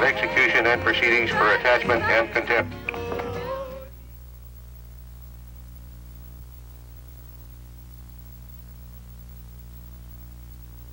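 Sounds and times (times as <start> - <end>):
low electrical hum: 0.0 - 10.9.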